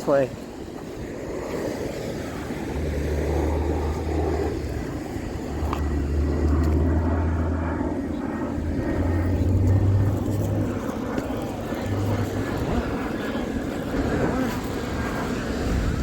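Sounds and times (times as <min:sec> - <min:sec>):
low engine drone: 0:00.3 - 0:16.0.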